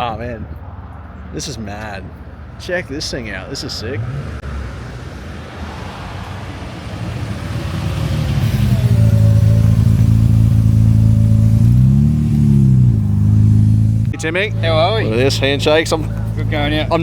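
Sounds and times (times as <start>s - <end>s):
car engine idling: 2.1s - 17.0s.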